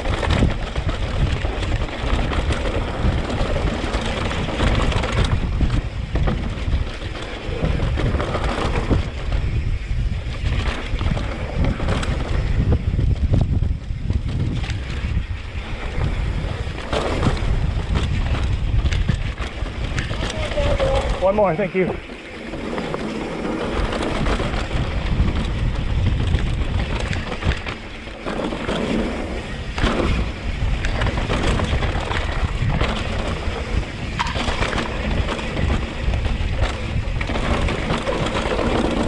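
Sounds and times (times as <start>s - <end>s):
bike rattles and clicks: 0.0s - 39.0s
tyres rumbling over dirt: 0.0s - 39.0s
wind buffeting microphone: 0.0s - 39.0s.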